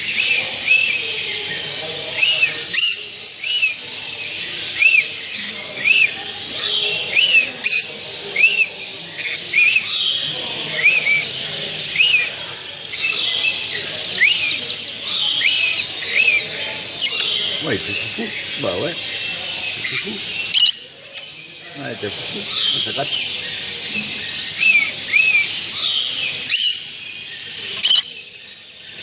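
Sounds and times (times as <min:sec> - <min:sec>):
cage birds chattering: 0:00.0 - 0:29.0
rising-and-falling bird chirp: 0:00.0 - 0:29.0.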